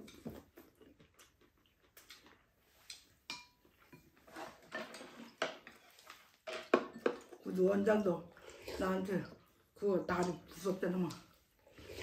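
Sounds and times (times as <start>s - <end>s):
soft eating noises: 0.0s - 12.0s.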